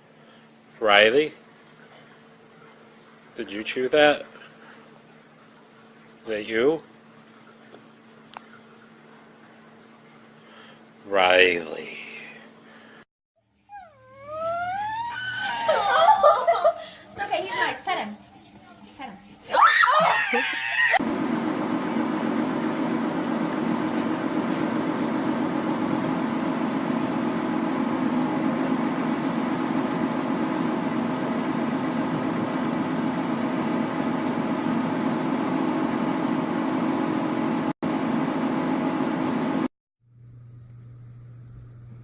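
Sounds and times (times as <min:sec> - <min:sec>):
machine whirring hum with hiss: 0:00.0 - 0:13.1, 0:14.2 - 0:42.0.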